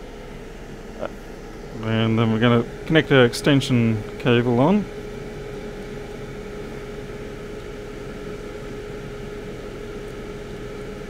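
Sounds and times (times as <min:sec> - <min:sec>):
machine hum with steady tone: 0:00.0 - 0:11.0.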